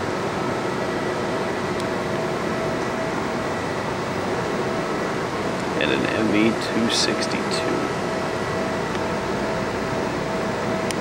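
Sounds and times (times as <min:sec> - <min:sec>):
ventilation air rushing and humming: 0:00.0 - 0:11.0.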